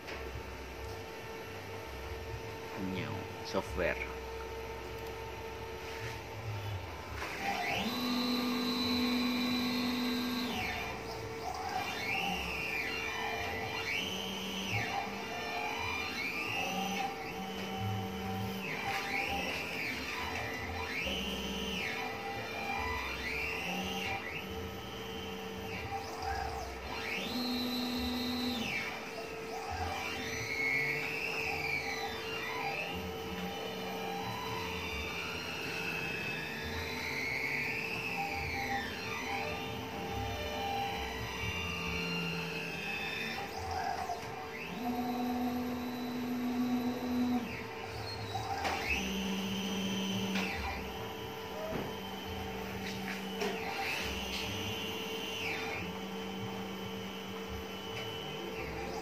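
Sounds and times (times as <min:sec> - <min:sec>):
steady background hum: 0:00.0 - 0:59.0
stepper motors whining: 0:00.0 - 0:59.0.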